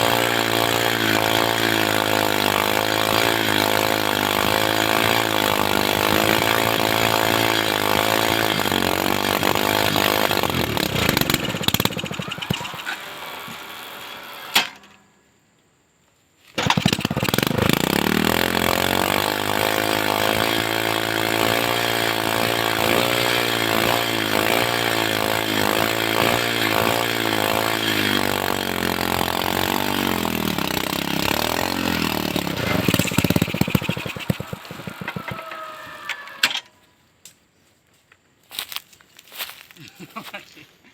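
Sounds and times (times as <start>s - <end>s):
motorcycle engine driving winch: 0.0s - 15.0s, 16.6s - 36.9s.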